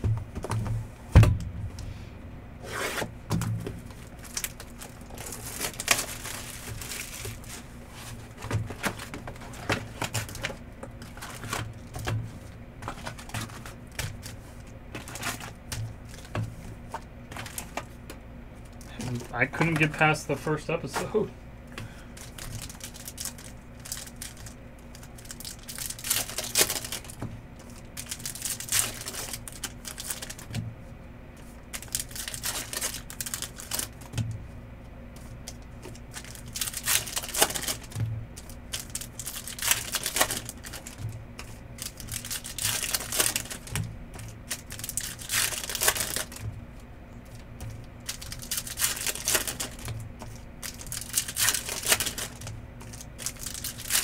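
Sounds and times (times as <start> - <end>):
steady low hum: 0.0 - 54.0
card wrappers crinkling and tearing: 3.6 - 12.1, 12.8 - 17.9, 18.6 - 21.3, 22.1 - 30.6, 31.4 - 34.2, 35.1 - 54.0.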